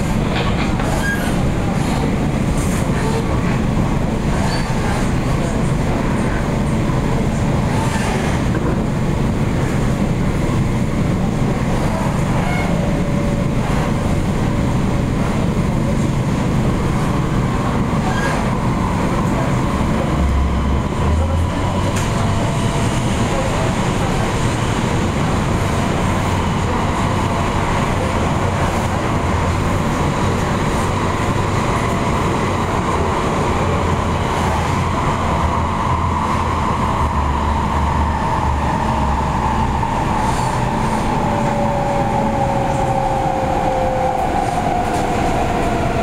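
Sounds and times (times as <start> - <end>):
train wheels rumbling on track: 0.0 - 46.0.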